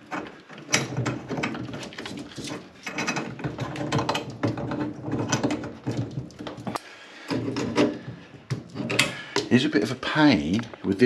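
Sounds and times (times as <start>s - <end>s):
metal nut clicking and rasping: 0.0s - 9.5s.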